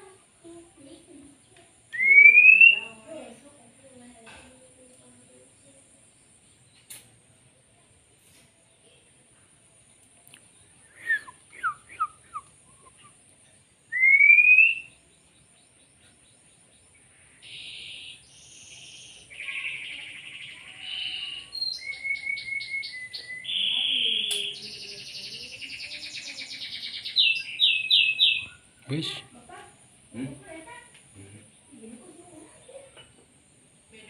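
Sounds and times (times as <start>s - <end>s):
songbird singing: 0.0s - 34.0s.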